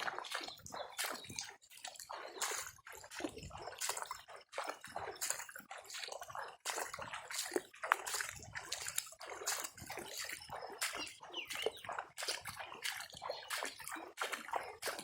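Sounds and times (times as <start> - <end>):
floodwater sloshing and splashing: 0.0 - 15.0.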